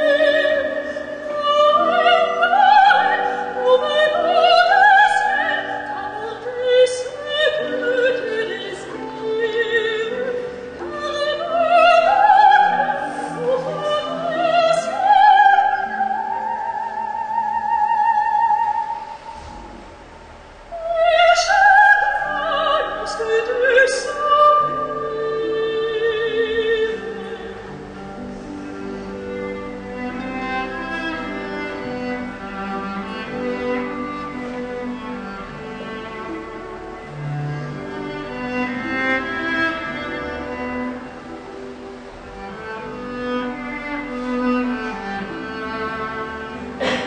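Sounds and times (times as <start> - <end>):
operatic singing with vibrato: 0.0 - 19.9, 20.6 - 47.0
orchestral accompaniment: 0.0 - 47.0.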